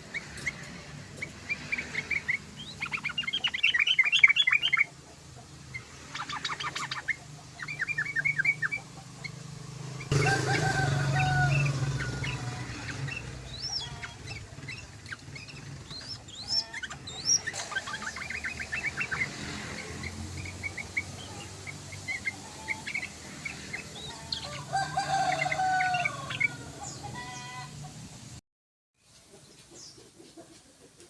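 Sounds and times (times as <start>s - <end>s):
bird chattering and calling: 0.0s - 27.5s.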